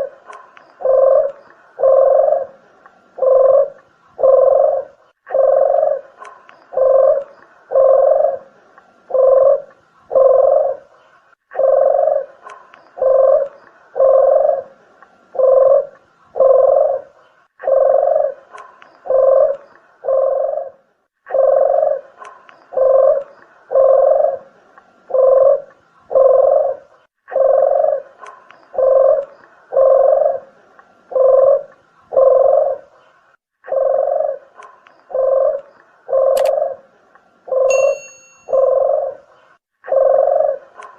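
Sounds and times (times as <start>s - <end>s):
dove cooing: 0.0s - 14.8s, 15.4s - 32.9s, 33.6s - 36.9s, 37.5s - 40.9s.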